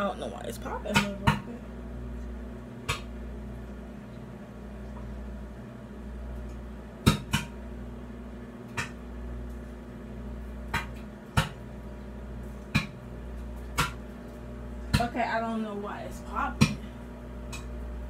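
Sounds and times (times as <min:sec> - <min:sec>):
microwave oven hum: 0:00.0 - 0:18.0.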